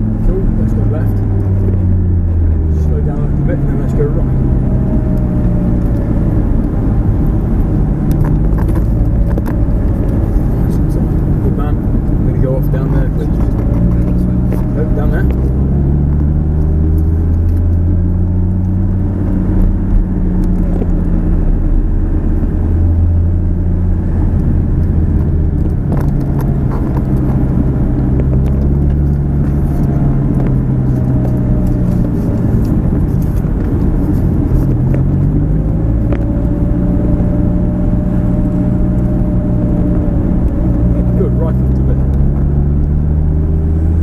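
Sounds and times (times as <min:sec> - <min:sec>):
car engine running from inside cabin: 0:00.0 - 0:44.0.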